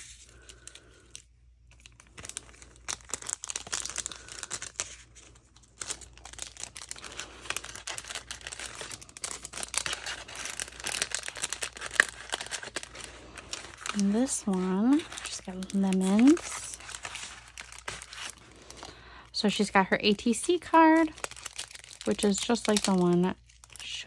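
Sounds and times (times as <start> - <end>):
paper pieces rustling: 0.0 - 18.9, 19.5 - 24.0
cellophane crinkling: 0.0 - 24.0.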